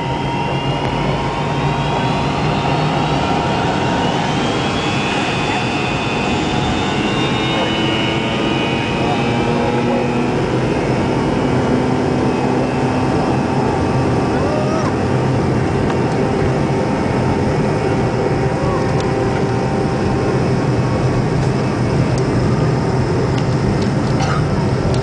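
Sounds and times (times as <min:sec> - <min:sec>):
airplane cabin takeoff noise: 0:00.0 - 0:25.0.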